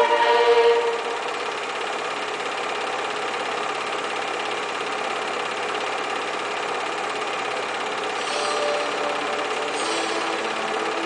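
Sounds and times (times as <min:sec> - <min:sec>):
small machine clattering: 0:00.8 - 0:11.0.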